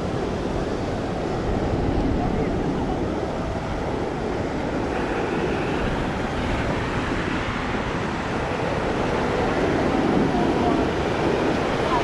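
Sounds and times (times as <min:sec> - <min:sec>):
sea surf on beach: 0:00.0 - 0:12.0
wind noise on microphone: 0:00.0 - 0:12.0.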